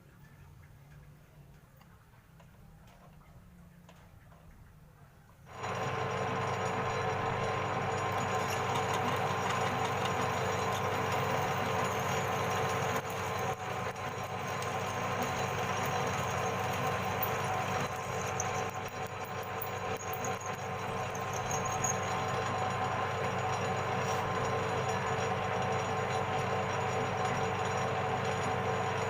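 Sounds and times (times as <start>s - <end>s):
metal lathe humming and whining: 5.5s - 29.0s.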